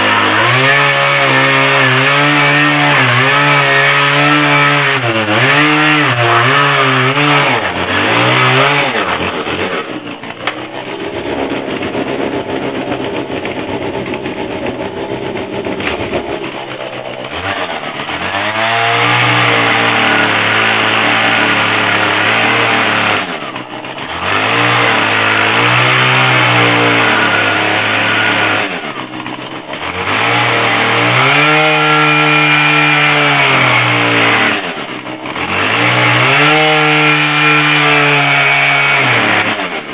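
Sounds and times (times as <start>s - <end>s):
chainsaw revving while carving wood: 0.0s - 39.9s.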